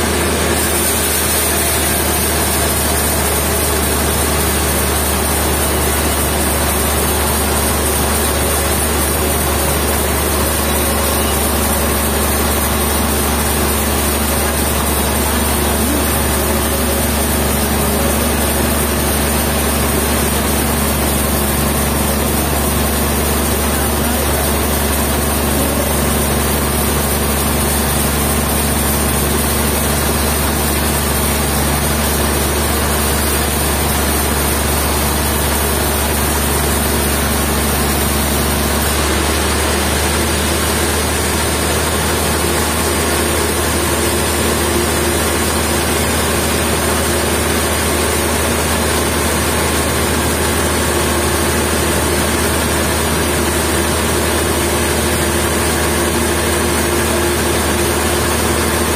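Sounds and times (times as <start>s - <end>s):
sawmill machinery hum: 0.0s - 58.9s.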